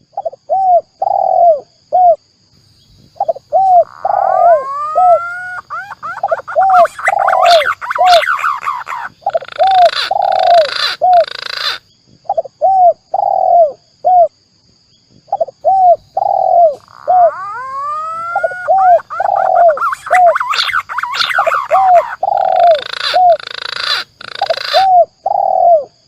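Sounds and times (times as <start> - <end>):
dove cooing: 0.2 - 2.2, 3.2 - 14.3, 15.3 - 25.9.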